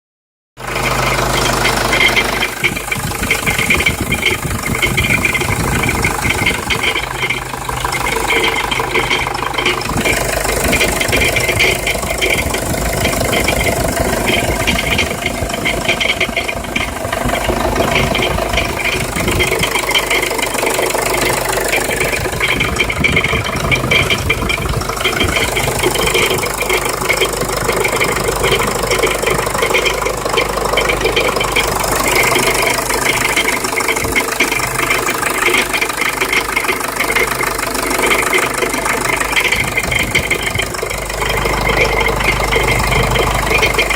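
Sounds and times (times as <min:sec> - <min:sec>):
diesel engine running: 0:00.6 - 0:43.9
fast rattling grinding noise: 0:00.6 - 0:43.9.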